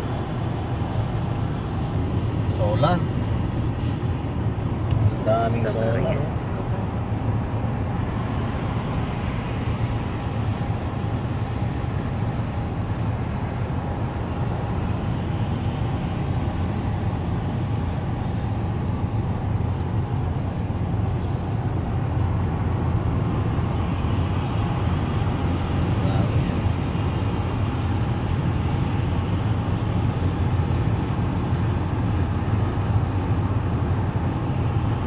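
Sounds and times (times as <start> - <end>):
road and tyre noise in car: 0.0 - 35.0.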